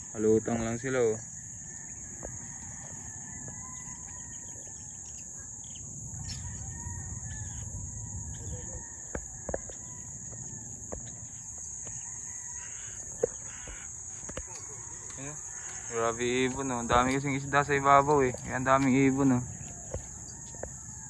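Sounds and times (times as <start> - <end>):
insects chirring: 0.0 - 21.0
rooster crowing: 1.3 - 21.0.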